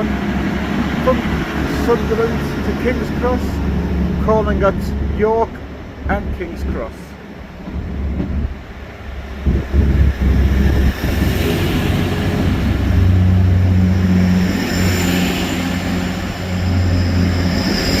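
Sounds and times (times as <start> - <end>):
diesel train engines droning: 0.0 - 18.0.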